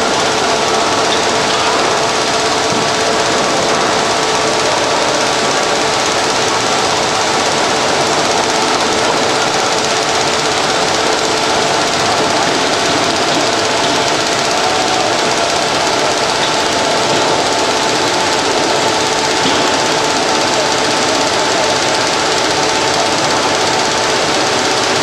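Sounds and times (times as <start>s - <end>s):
machine belts and rollers clattering: 0.0s - 25.0s.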